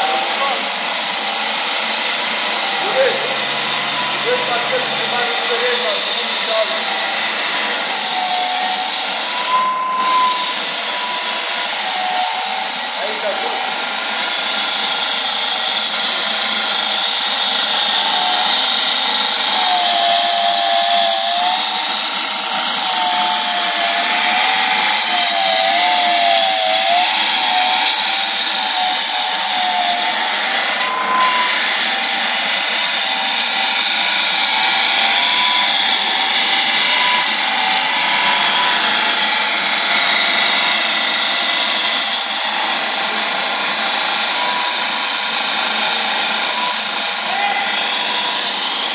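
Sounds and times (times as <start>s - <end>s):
floor sander motor whine: 0.0s - 48.9s.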